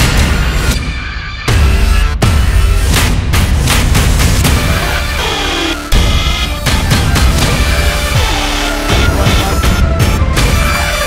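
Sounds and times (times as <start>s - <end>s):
trailer-style soundtrack music: 0.0s - 11.0s.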